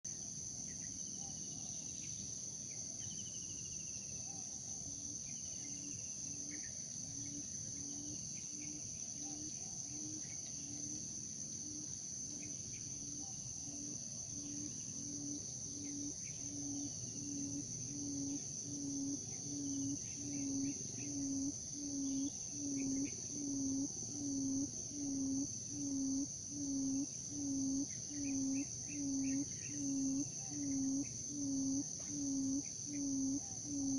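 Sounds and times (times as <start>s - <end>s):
crickets and insects droning: 0.1s - 33.9s.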